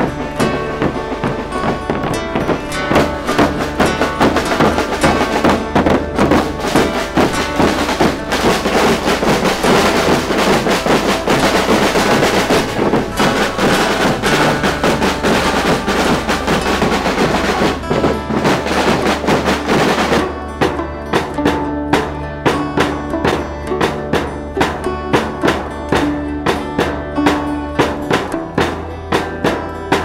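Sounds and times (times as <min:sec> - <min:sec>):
bass drum: 0:00.0 - 0:30.0
snare drums: 0:00.0 - 0:30.0
sustained melody notes: 0:00.0 - 0:30.0.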